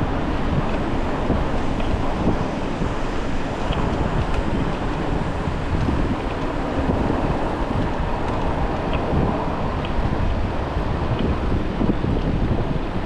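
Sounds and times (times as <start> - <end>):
road traffic noise: 0.0 - 13.0
wind buffeting microphone: 0.0 - 13.0.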